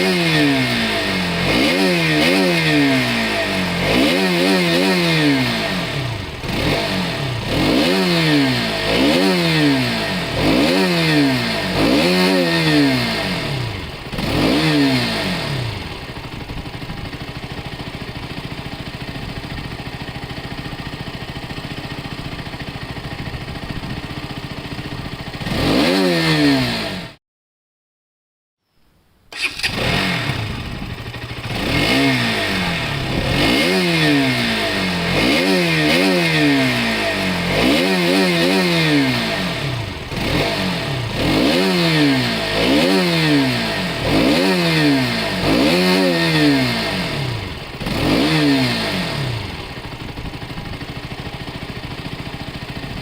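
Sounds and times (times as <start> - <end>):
motorcycle engine revving: 0.0 - 27.2, 29.3 - 53.0.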